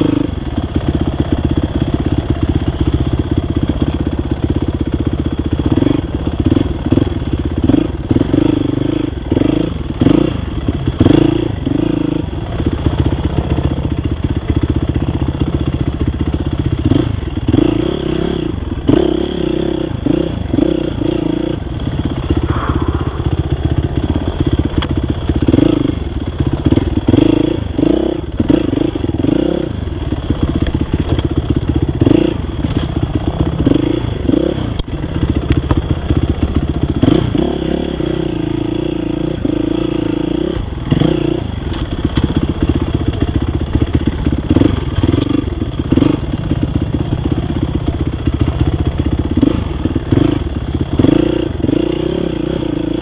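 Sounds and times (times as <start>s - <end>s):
dirt bike engine revving: 5.6s - 15.6s, 16.2s - 53.0s.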